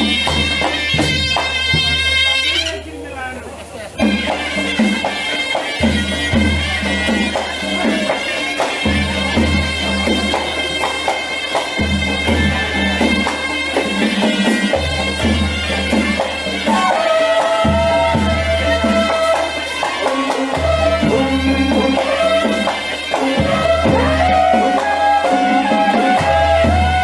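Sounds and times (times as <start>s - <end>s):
steady drum beat: 0.0s - 27.0s.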